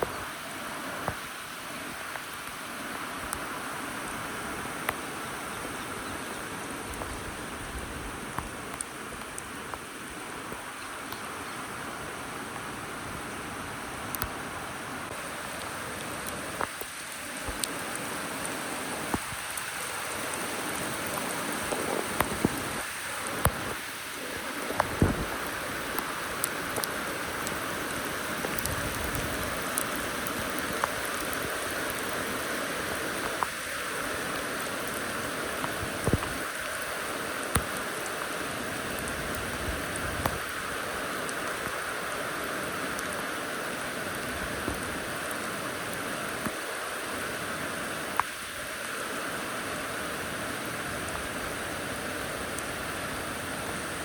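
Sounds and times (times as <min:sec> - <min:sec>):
rain hissing: 0:00.0 - 0:54.0
raindrops ticking on hard surfaces: 0:00.0 - 0:54.0.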